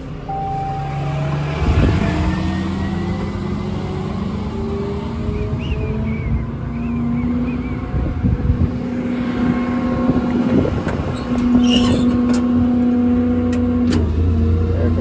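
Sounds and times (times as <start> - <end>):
diesel truck engine humming: 0.0 - 15.0.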